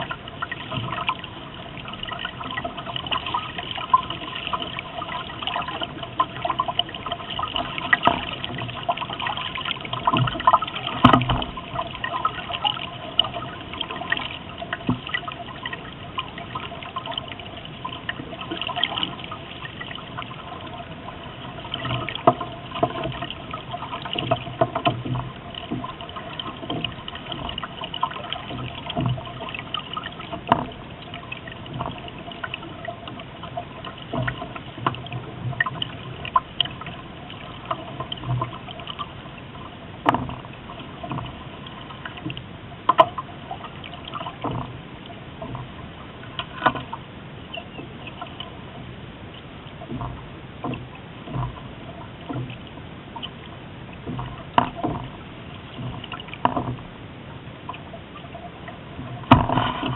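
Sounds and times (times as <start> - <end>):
water slapping hull: 0.0 - 59.9
water splashing along hull: 0.0 - 59.9.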